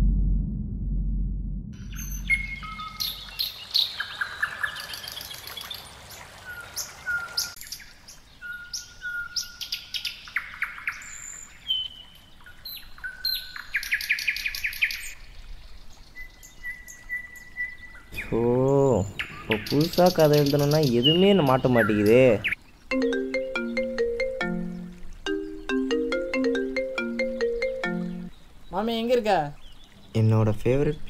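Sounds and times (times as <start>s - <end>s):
songbirds chirping and whistling: 1.8s - 5.8s, 6.4s - 30.3s.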